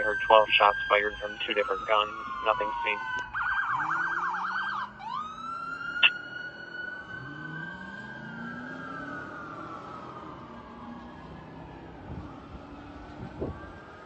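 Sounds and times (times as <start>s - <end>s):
fire truck sirens wailing: 0.0s - 14.0s.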